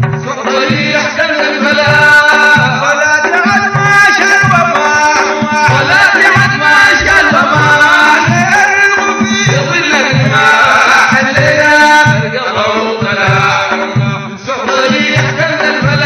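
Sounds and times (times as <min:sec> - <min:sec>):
steady drum beat: 0:00.0 - 0:16.0
voices chanting together: 0:00.4 - 0:16.0.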